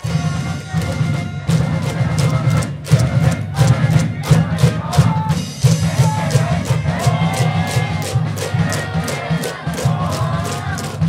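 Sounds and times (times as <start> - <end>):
brass band playing: 0.0 - 11.0
drum beats: 0.0 - 11.0.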